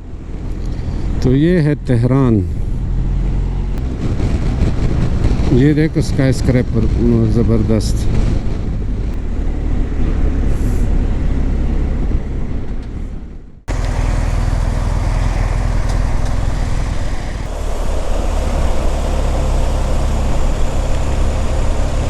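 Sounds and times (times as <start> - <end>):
motorcycle engine: 0.0 - 5.8, 8.0 - 22.0
road noise: 0.0 - 22.0.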